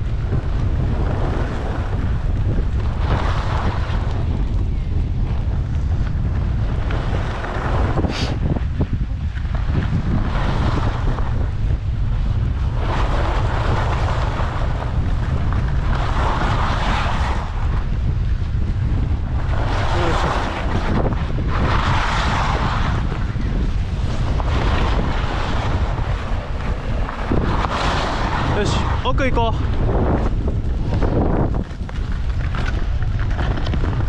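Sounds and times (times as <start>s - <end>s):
skis scraping across snow: 0.0s - 34.0s
wind buffeting microphone: 0.0s - 34.0s.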